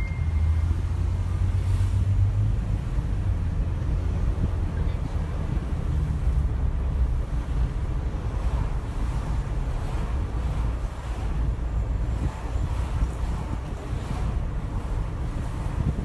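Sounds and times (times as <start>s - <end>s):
engine and road rumble in car: 0.0s - 16.0s.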